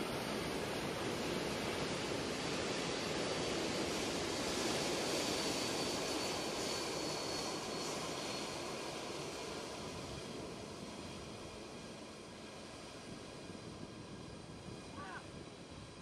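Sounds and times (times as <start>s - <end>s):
high jet whine: 0.0s - 16.0s
jet engines rushing: 0.0s - 16.0s.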